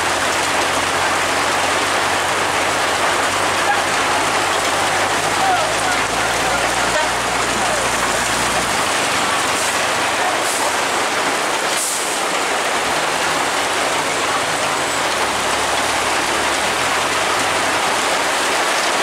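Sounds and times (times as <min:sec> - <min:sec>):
heavy rain: 0:00.0 - 0:19.0
vehicle engine running low: 0:00.0 - 0:19.0.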